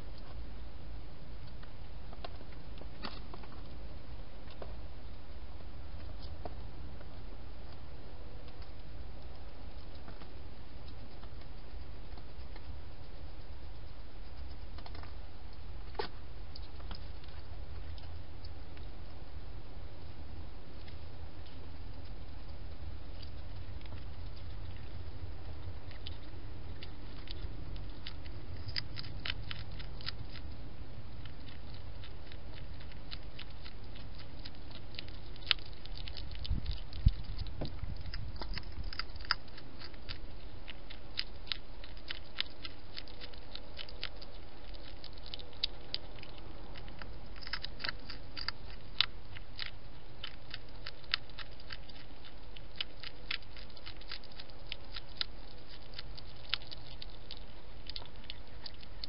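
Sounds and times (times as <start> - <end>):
constant background noise: 0.0 - 59.0
hedgehog crunching food pellets: 0.0 - 59.0.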